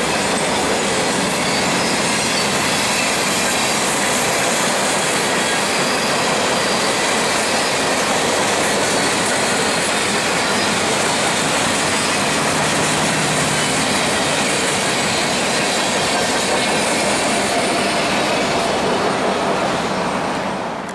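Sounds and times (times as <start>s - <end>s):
train wheels rolling on rail: 0.0s - 20.9s.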